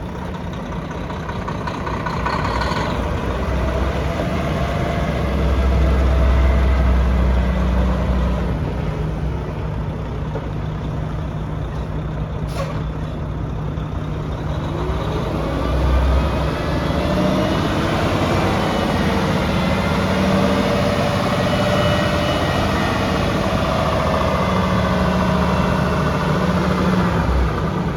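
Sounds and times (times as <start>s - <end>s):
diesel truck engine rumbling: 0.0s - 27.9s.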